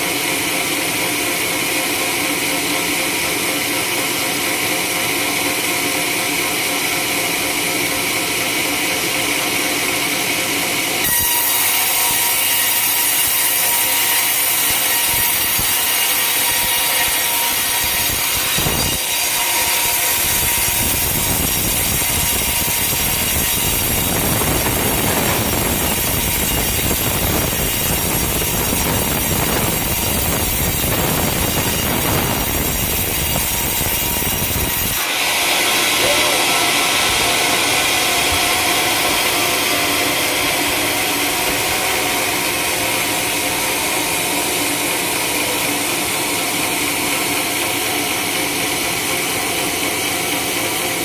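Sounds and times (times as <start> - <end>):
sawmill cutting log: 0.0 - 51.0.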